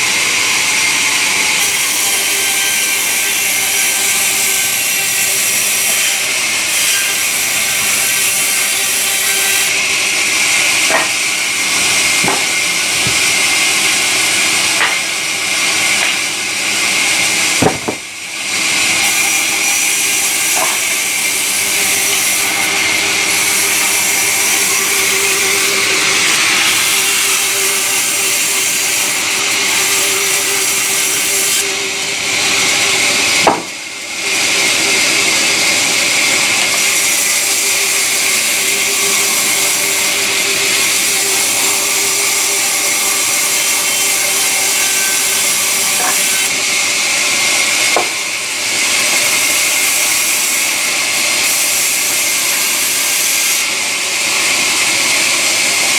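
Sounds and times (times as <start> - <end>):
sawmill saw cutting timber: 0.0 - 55.9.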